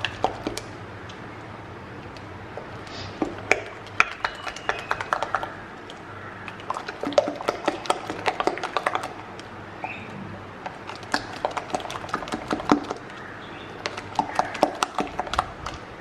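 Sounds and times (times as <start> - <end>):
batter mixing wet clicks: 0.0 - 9.6, 10.5 - 16.0.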